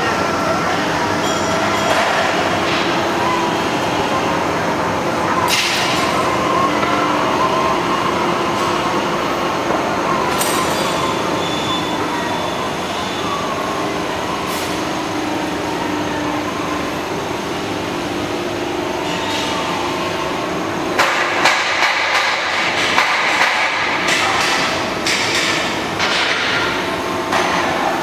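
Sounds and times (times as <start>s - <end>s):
conveyor hum and rattle: 0.0s - 28.0s.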